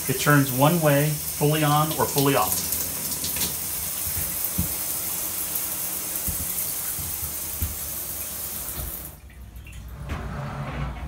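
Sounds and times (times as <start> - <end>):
shower spraying water: 0.0 - 9.2.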